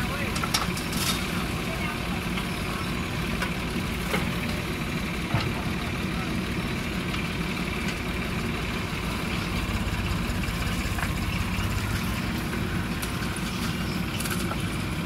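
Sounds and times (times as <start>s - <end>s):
backhoe digging soil: 0.0s - 6.2s, 6.8s - 15.0s
diesel engine running: 0.0s - 15.0s.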